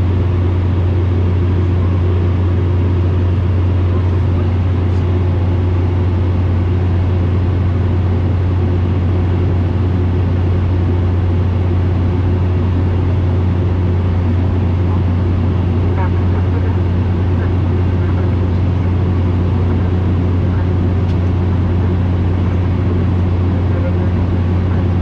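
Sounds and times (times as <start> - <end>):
deep turboprop cabin hum: 0.0 - 25.0.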